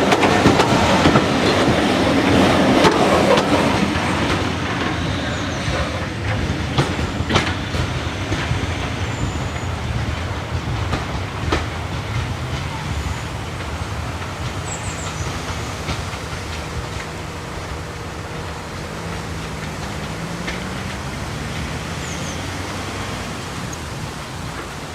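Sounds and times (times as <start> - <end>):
train coaches rumbling: 0.0 - 24.9
wheels clacking over rail joints: 0.0 - 24.9.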